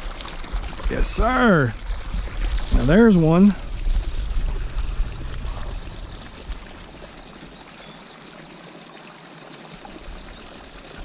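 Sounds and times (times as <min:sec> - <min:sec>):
water pouring into pond: 0:00.0 - 0:11.0.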